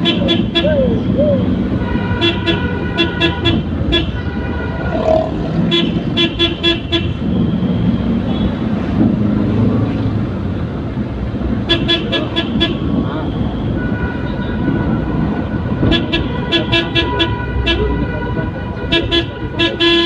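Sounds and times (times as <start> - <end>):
road and engine noise: 0.0 - 20.0.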